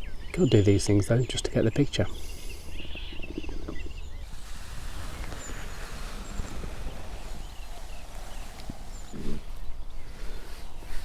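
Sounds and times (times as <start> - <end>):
faint high bird chirps: 0.0 - 10.0.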